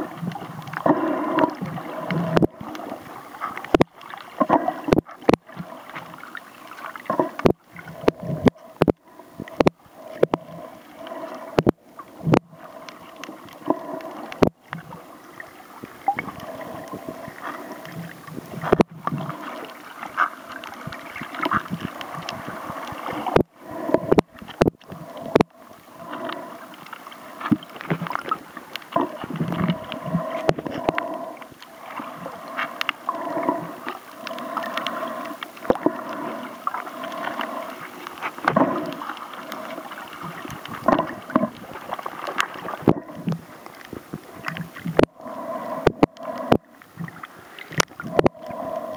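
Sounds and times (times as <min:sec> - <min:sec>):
underwater knocks and clicks: 0:00.0 - 0:15.0, 0:15.8 - 0:48.9
muffled underwater drone: 0:00.0 - 0:48.9.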